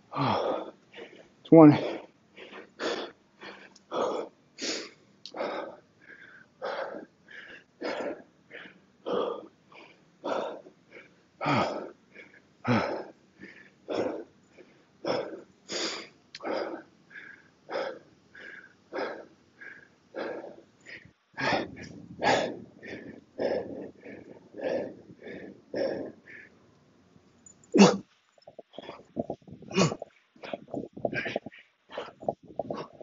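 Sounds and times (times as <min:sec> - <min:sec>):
man breathing hard: 0:00.0 - 0:26.6, 0:27.7 - 0:33.0.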